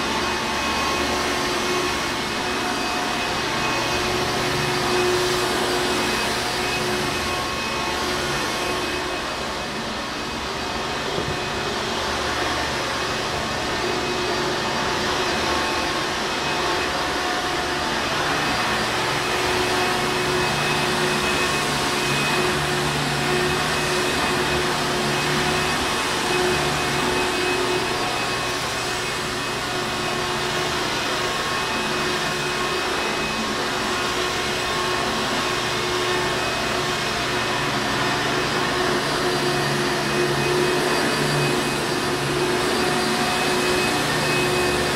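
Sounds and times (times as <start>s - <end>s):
vacuum cleaner running: 0.0s - 44.9s.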